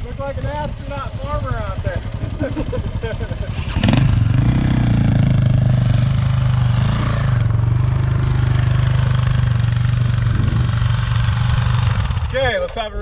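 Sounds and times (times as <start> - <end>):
dirt bike engine running: 0.0 - 12.6.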